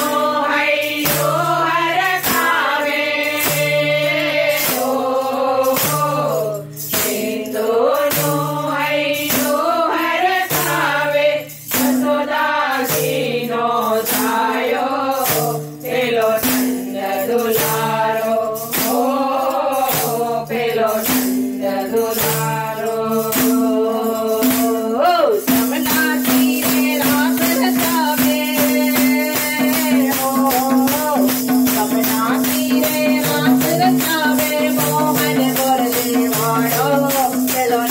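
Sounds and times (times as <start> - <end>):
small hand cymbals: 0.0 - 37.9
women singing devotional song: 0.0 - 37.9.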